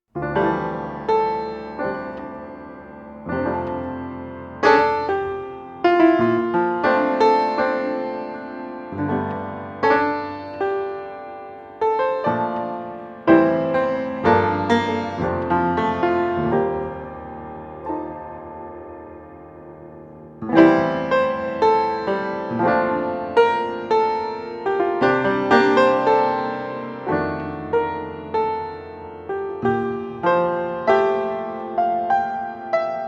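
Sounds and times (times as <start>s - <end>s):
piano music: 0.1s - 33.0s.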